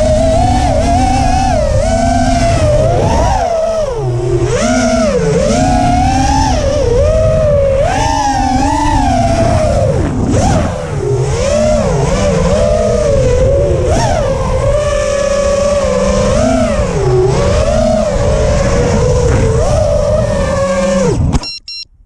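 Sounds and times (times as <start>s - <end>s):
low rumble: 0.0s - 21.4s
drone motors whining: 0.0s - 21.9s.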